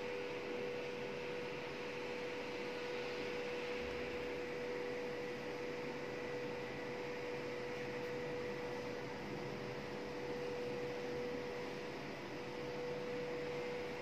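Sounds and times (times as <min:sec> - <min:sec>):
stair lift electric hum: 0:00.0 - 0:14.0.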